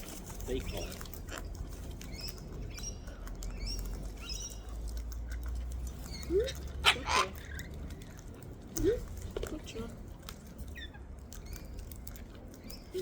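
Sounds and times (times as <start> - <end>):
cockatoos cracking food: 0.0 - 13.0.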